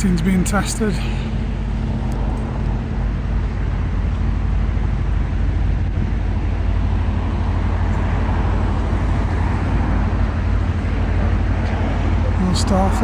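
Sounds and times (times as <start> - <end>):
low engine-like rumble: 0.0 - 13.0
outdoor background noise: 0.0 - 13.0.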